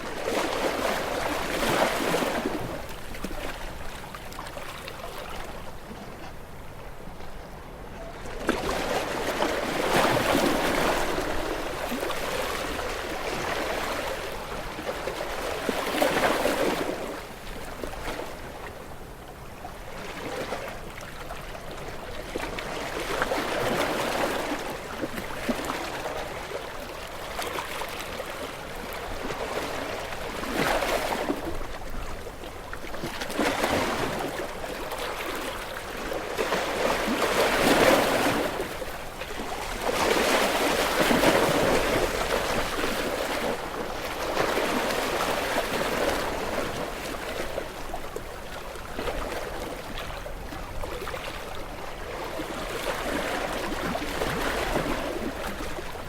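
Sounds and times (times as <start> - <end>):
small waves washing on beach: 0.0 - 7.1, 8.3 - 56.0.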